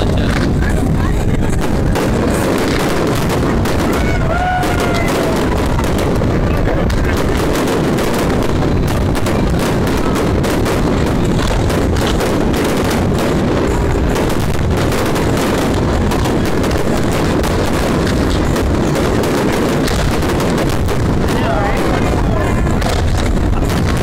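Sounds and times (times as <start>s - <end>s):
fireworks bursting: 0.0s - 24.0s
fireworks crackling: 0.0s - 24.0s.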